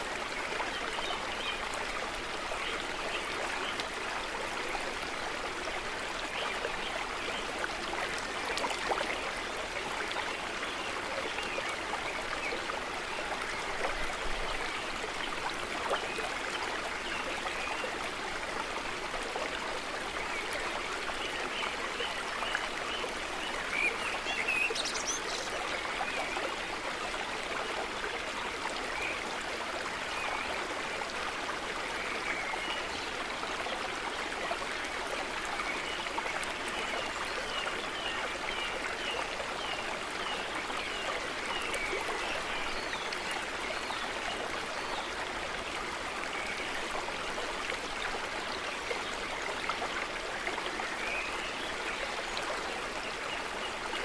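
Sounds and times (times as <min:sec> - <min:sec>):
small stream running: 0:00.0 - 0:54.0.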